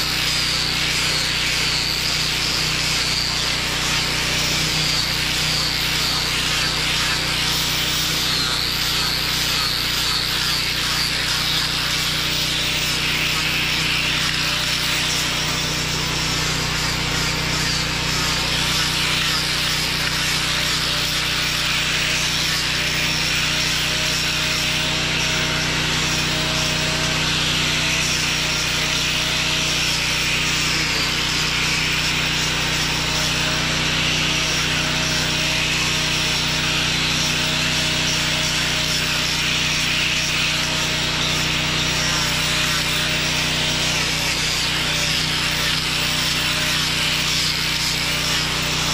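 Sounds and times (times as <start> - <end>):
power sander on wood: 0.0 - 48.9.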